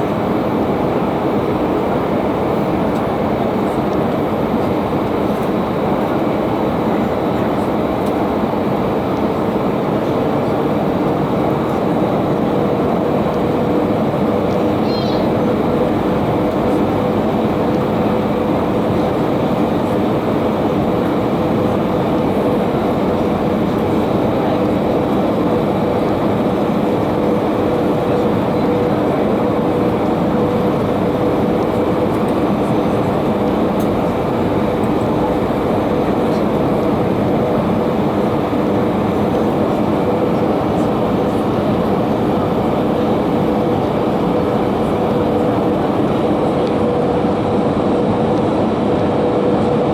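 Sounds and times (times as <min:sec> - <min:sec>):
jet engines droning: 0:00.0 - 0:49.9.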